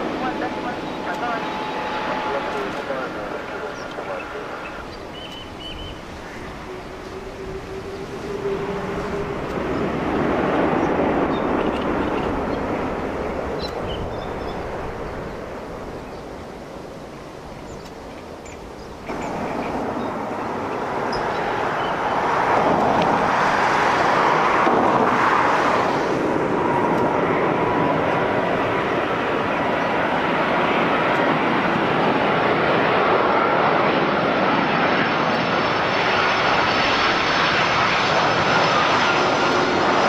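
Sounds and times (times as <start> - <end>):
airliner rolling on runway: 0.0 - 40.0
jet on approach: 0.0 - 40.0
thin jet engine whine: 0.0 - 40.0.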